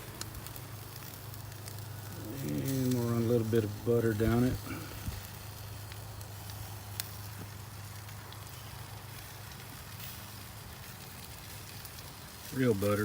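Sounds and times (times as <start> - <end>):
crackles and pops: 0.0 - 13.0
fish sizzling on a grill: 0.0 - 13.0.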